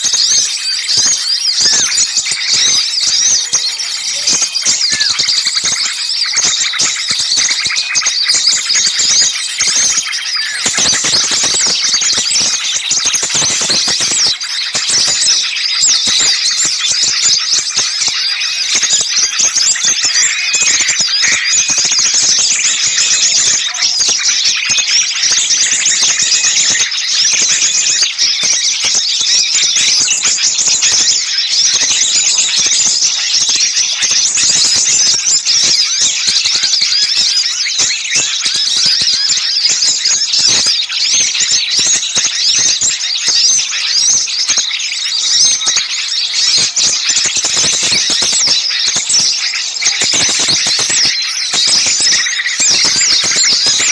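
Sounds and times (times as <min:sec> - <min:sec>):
chorus of small birds chattering: 0:00.0 - 0:53.9.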